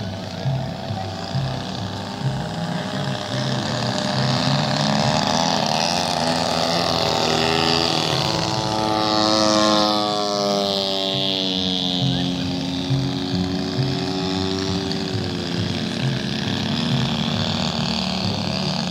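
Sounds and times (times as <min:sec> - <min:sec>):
model airplane engine flying past: 0:00.0 - 0:18.9.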